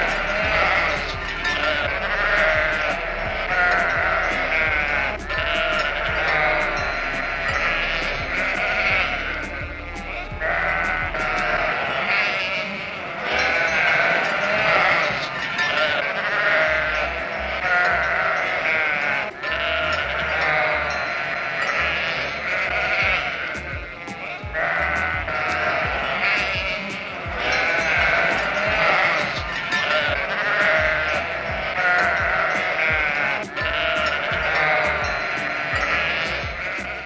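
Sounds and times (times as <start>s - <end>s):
sheep bleating: 0.0s - 37.0s.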